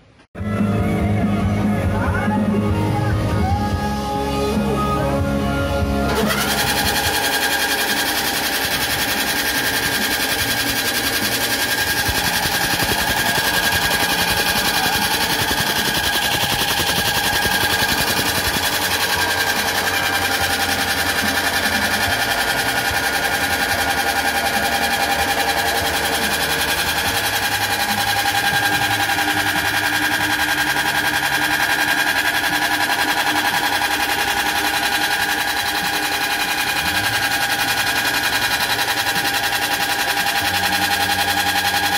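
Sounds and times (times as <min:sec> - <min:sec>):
machine motor hum: 0:02.6 - 0:41.9
rapid rattle of cracking beans: 0:06.3 - 0:41.9.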